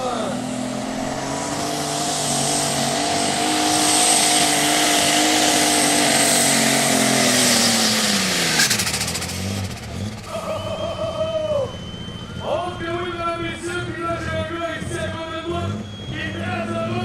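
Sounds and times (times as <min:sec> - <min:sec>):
engine crackling: 0:00.0 - 0:16.8
tractor engine at high revs: 0:00.0 - 0:17.0.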